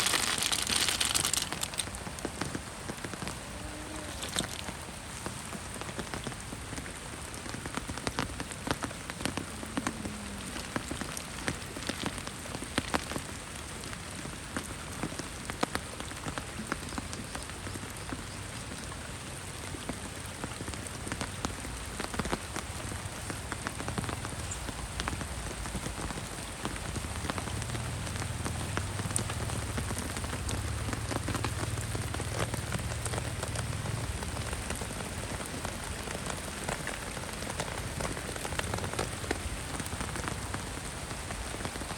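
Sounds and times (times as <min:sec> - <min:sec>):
heavy rain: 0:00.0 - 0:41.9
rain drops spattering: 0:00.0 - 0:41.9.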